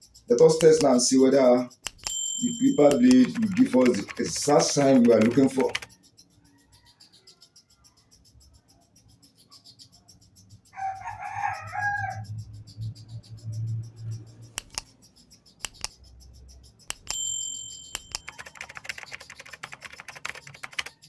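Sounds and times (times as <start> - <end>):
scratchy ticks: 0.0 - 21.0.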